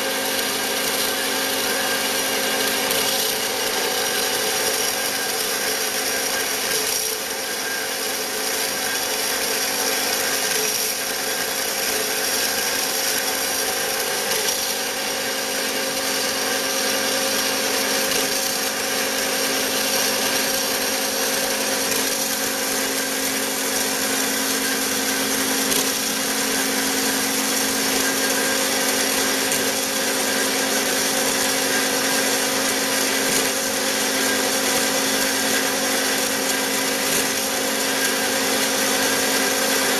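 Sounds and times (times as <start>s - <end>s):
bandsaw cutting metal: 0.0s - 39.9s.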